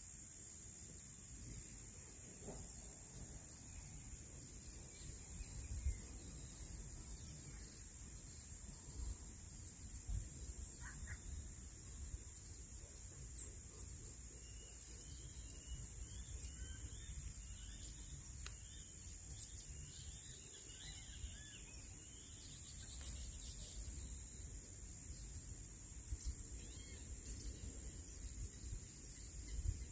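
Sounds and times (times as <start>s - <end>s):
songbird chirping: 3.1s - 29.9s.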